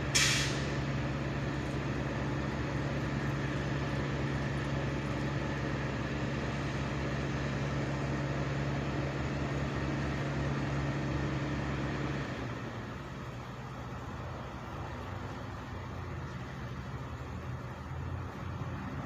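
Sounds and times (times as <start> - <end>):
large engine running: 0.0 - 19.0.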